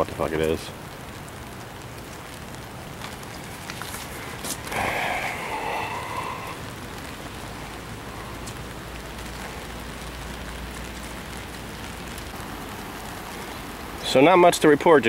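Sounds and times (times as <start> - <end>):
hard rain falling: 0.0 - 15.0.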